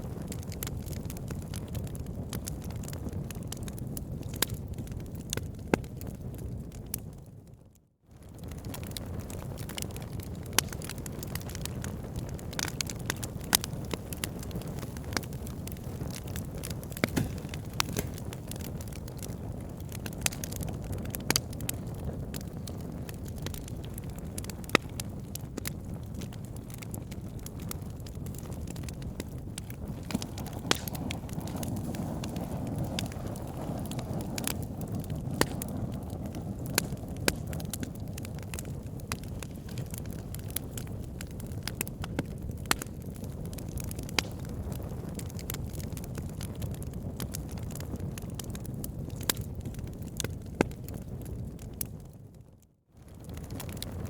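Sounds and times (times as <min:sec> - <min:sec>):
logs crackling and popping: 0:00.0 - 0:07.2, 0:08.2 - 0:54.0
low rumble of flames: 0:00.0 - 0:54.0.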